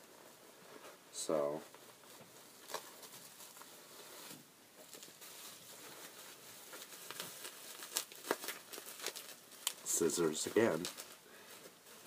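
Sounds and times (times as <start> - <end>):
faint rustling and crinkling: 0.0 - 12.0.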